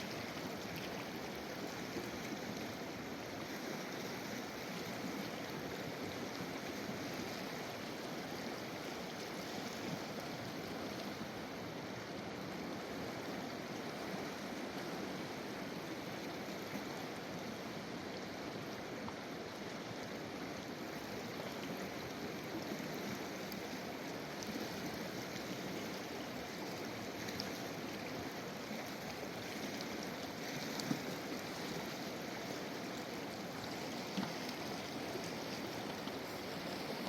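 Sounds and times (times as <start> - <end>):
fast-flowing river rushing: 0.0 - 37.0.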